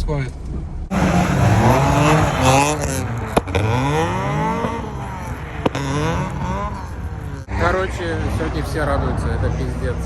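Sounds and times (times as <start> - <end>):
car engine revving: 0.9 - 10.0.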